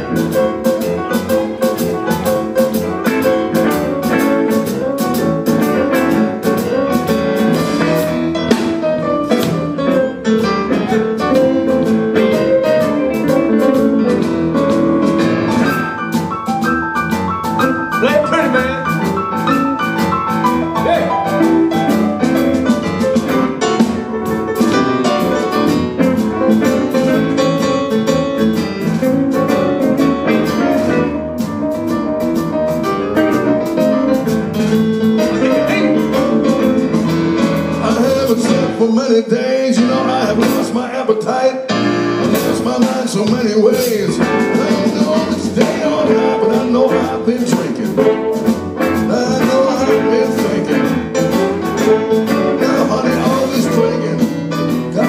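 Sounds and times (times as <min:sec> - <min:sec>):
drum kit beat: 0:00.0 - 0:40.9, 0:41.7 - 0:55.0
bass: 0:00.0 - 0:55.0
piano: 0:00.0 - 0:55.0.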